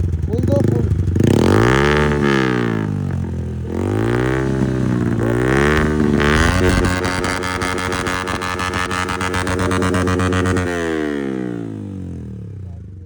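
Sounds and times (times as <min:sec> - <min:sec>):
motorcycle engine revving and idling: 0:00.0 - 0:13.0.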